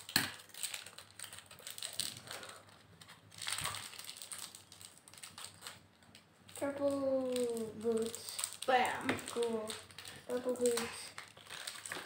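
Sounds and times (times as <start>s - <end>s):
foil toy wrapper crinkling: 0.0s - 12.0s.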